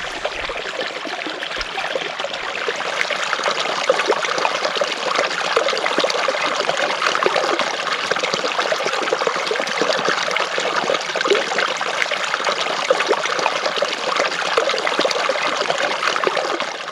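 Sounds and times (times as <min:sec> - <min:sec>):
stream babbling over rocks: 0:00.0 - 0:16.9.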